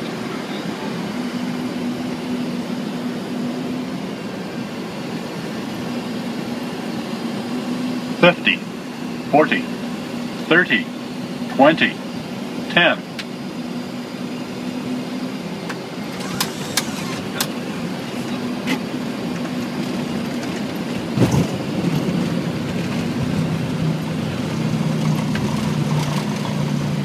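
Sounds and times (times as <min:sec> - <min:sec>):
rumble of engines and wheels: 0:00.0 - 0:27.0.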